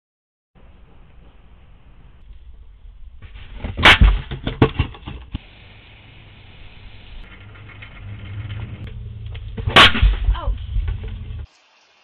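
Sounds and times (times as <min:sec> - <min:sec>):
steady low rumble: 0:00.6 - 0:04.4, 0:05.0 - 0:11.5.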